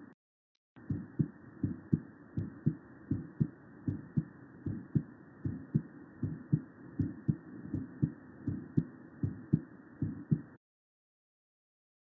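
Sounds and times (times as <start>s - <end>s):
heartbeat lub-dub: 0.8s - 10.6s
steady background hiss: 0.8s - 10.6s.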